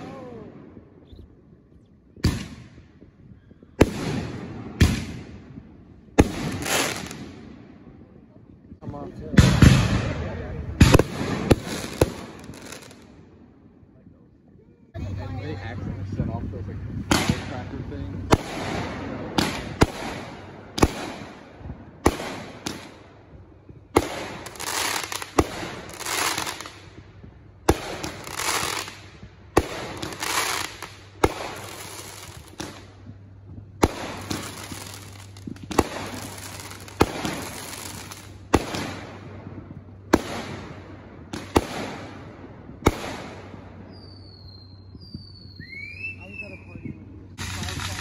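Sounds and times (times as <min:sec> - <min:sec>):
fireworks bangs: 0:02.2 - 0:07.9, 0:08.7 - 0:13.2, 0:16.9 - 0:48.0
fireworks crackling and hiss: 0:03.8 - 0:07.4, 0:09.1 - 0:13.2, 0:15.3 - 0:45.7, 0:46.4 - 0:48.0.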